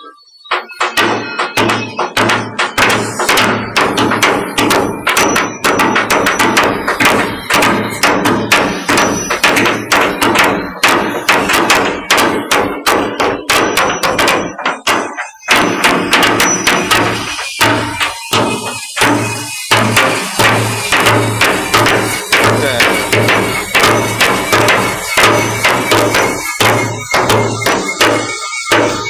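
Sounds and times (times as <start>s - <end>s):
chipping hammers striking steel: 0.4s - 29.0s.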